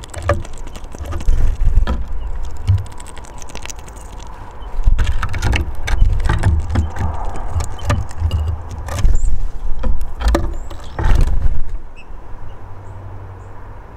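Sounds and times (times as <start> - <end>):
wings buffeting: 0.0 - 11.8.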